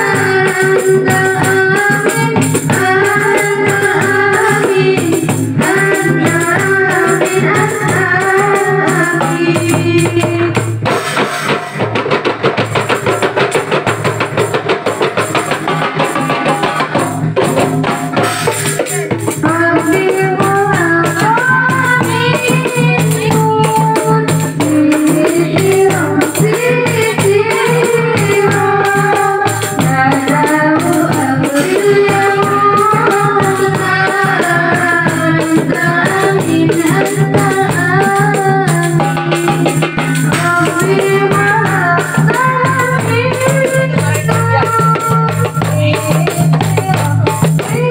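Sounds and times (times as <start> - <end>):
hand drums playing: 0.0 - 47.9.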